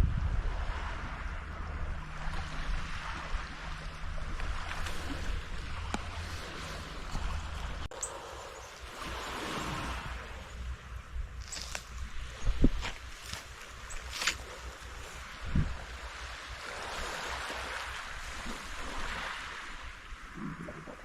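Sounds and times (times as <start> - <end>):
wind rumbling on microphone: 0.0 - 21.0
water sloshing and lapping: 0.3 - 21.0.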